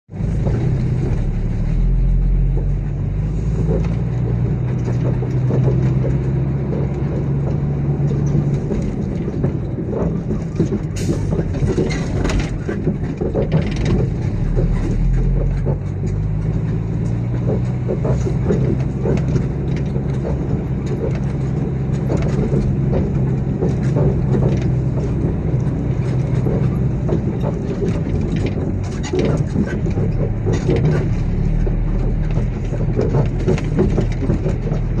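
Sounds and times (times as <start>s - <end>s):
construction vehicle engine drone: 0.1s - 35.0s
sharp knocks and clicks: 0.1s - 35.0s.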